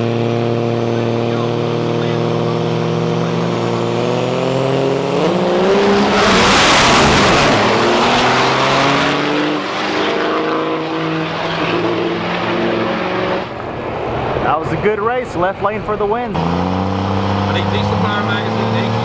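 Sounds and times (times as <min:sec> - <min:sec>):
diesel trucks racing: 0:00.0 - 0:19.0.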